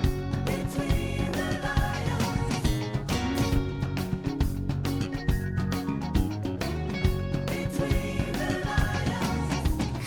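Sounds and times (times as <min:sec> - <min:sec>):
upbeat music with guitar: 0:00.0 - 0:10.0.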